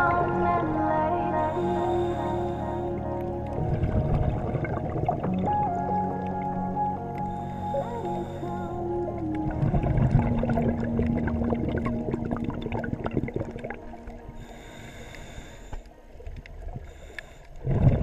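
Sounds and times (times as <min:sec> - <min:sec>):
background music: 0:00.0 - 0:14.8
low bubbling rush: 0:00.0 - 0:15.3, 0:16.0 - 0:18.0
underwater crackling and clicking: 0:00.0 - 0:18.0.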